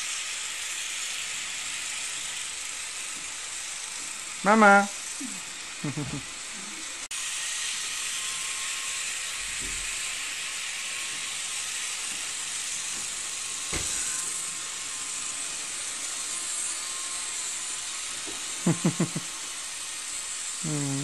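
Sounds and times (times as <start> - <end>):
model train running on track: 0.0 - 21.0.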